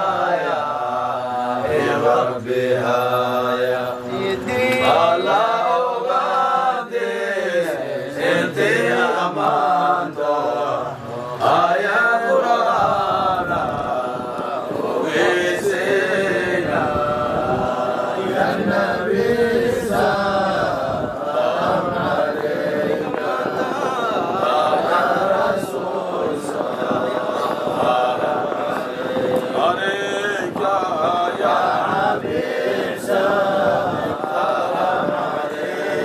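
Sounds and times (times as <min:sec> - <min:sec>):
men chanting together: 0:00.0 - 0:36.0.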